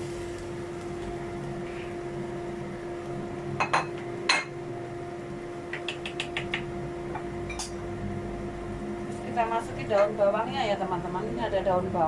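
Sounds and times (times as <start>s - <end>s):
kitchen fan hum: 0.0s - 12.0s.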